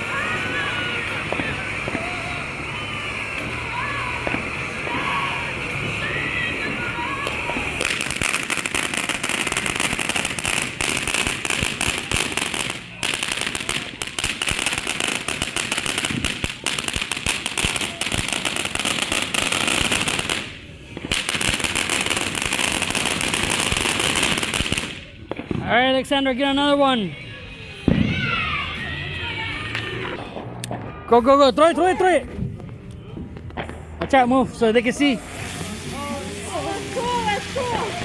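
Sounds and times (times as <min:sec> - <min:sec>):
ground firework crackling and hissing: 0:00.0 - 0:38.0.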